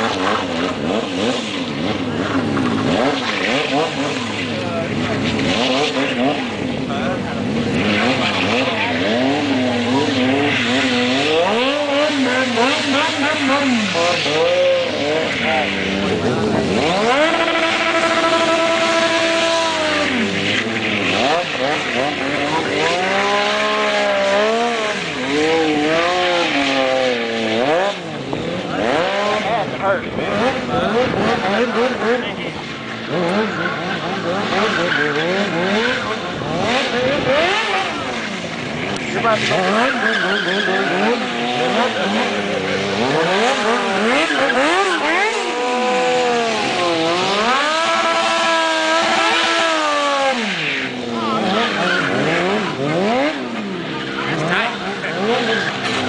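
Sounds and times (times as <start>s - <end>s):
motorcycle engine revving: 0.0s - 56.0s
spinning tyre hissing: 0.0s - 56.0s.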